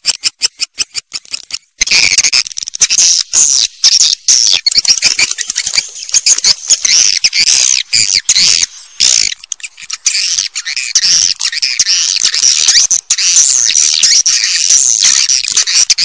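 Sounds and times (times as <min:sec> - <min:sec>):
swiftlet calls chattering and clicking: 0:00.0 - 0:16.0.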